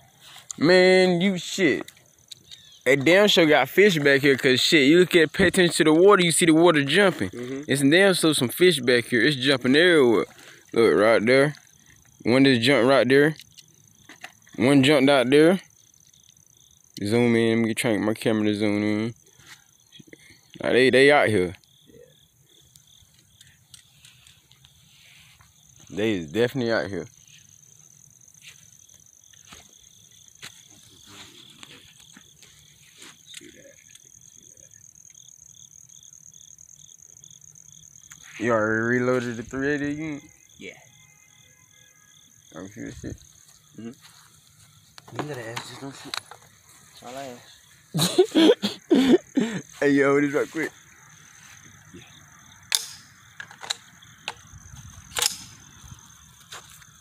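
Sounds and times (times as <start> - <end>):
high-pitched insect trill: 0.0 - 57.0
pulsed insect chirp: 0.0 - 57.0.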